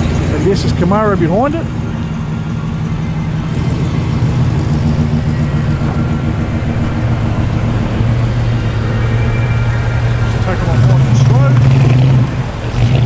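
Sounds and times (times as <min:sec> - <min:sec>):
car engine at low revs: 0:00.0 - 0:13.0.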